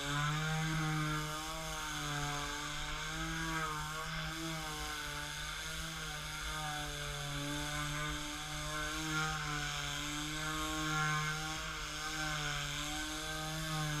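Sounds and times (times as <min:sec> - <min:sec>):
detail sander motor hum: 0:00.0 - 0:14.0.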